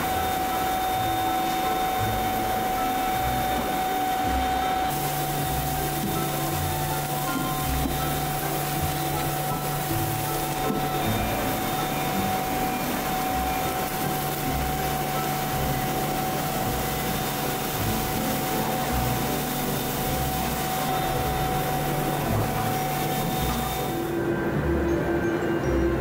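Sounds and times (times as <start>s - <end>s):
machinery hiss: 0.0s - 24.6s
machinery whine: 0.0s - 26.0s.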